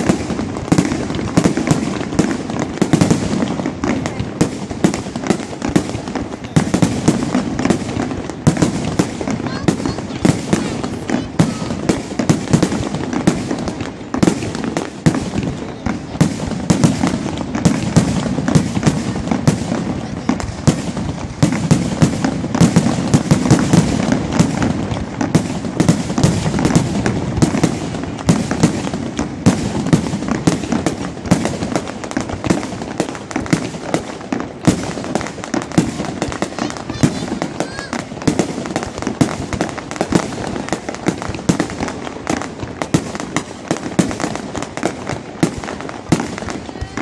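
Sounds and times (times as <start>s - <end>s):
fireworks bangs: 0.0s - 47.0s.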